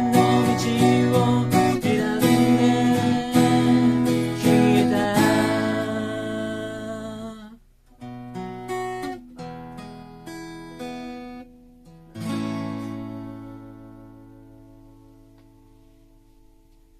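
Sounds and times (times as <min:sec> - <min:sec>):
acoustic guitar slow chords: 0:00.0 - 0:16.9.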